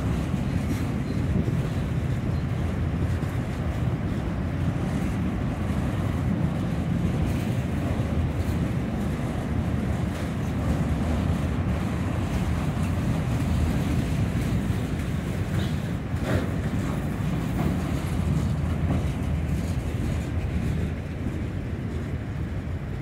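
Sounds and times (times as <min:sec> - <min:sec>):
steel wheels rumbling on rail: 0:00.0 - 0:23.0
wind buffeting microphone: 0:00.0 - 0:23.0.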